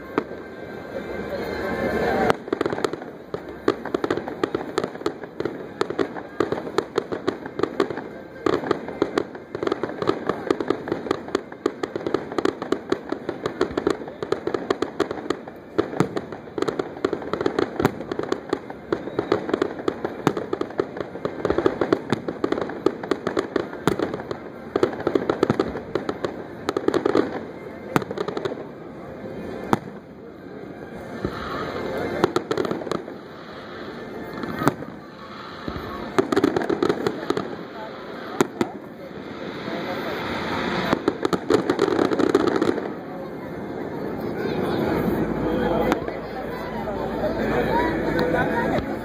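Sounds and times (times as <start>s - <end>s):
fireworks bangs: 0.0s - 49.0s
fireworks crackling pops: 0.0s - 49.0s.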